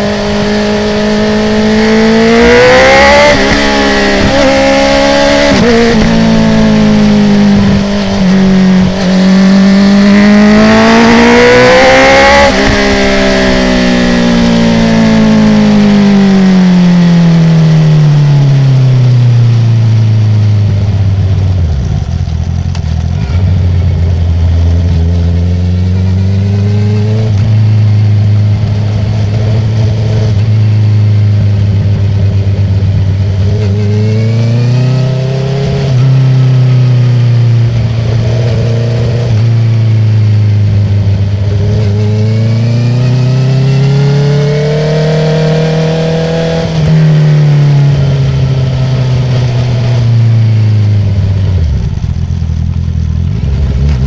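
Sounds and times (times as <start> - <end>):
motorcycle exhaust revving: 0.0 - 54.0.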